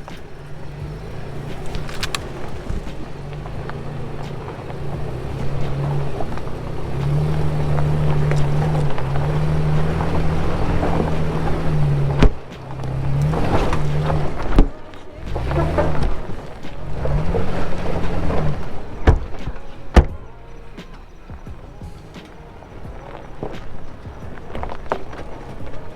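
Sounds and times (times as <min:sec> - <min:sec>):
vehicle engine revving: 0:00.0 - 0:25.9.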